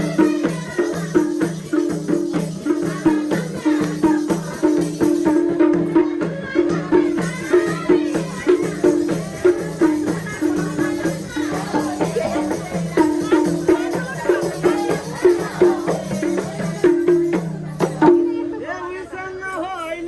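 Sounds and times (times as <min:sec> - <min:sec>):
shaker rattling: 0:00.0 - 0:05.6, 0:07.1 - 0:18.3
hand drum rhythm: 0:00.0 - 0:18.7.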